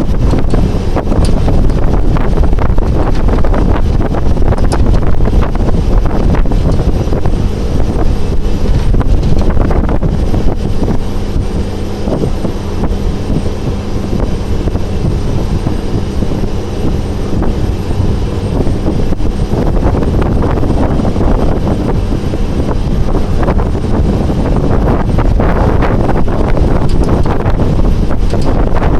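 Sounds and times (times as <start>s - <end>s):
jet engines of landing airliner: 0.0s - 28.9s
wind buffeting microphone: 0.0s - 28.9s.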